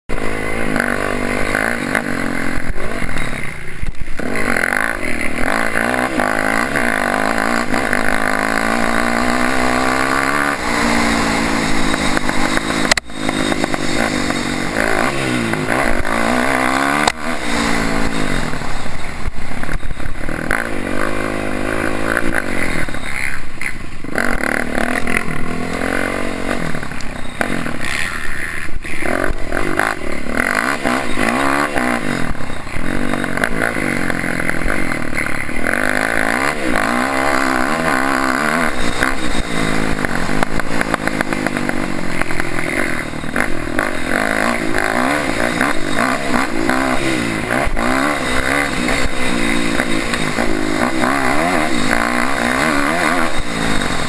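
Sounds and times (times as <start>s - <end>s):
off-road vehicle engine revving: 0.1s - 54.0s.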